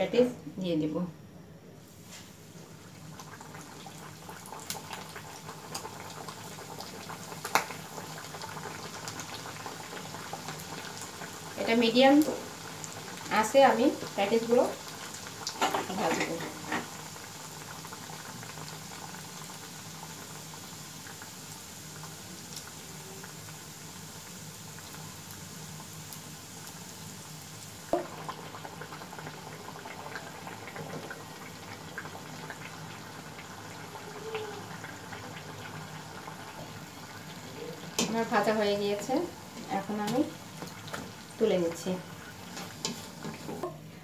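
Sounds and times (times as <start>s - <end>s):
oil bubbling sizzle: 1.8s - 44.0s.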